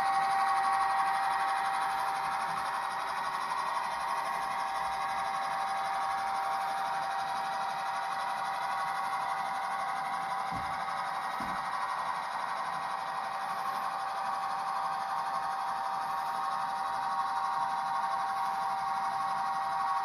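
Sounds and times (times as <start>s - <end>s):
constant whine: 0.0s - 20.0s.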